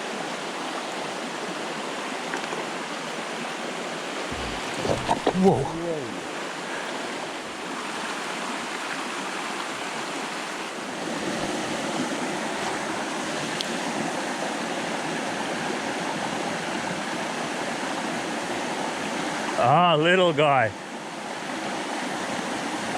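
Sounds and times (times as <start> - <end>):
creek water over rocks: 0.0 - 22.9.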